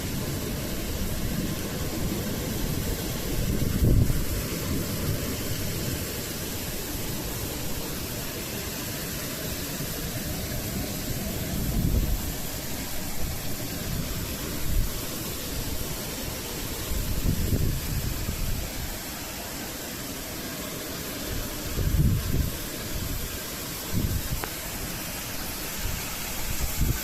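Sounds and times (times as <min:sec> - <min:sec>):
wind buffeting microphone: 0:00.0 - 0:08.0, 0:10.4 - 0:19.0, 0:21.2 - 0:27.0
storm wind rushing: 0:00.0 - 0:08.7, 0:09.8 - 0:19.1, 0:21.3 - 0:27.0.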